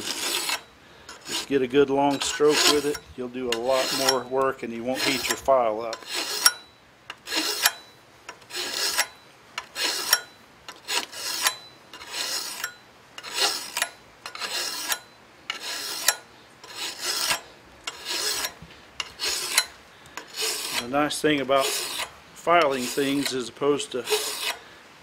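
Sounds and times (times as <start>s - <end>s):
file rasping on steel blade: 0.0s - 24.7s.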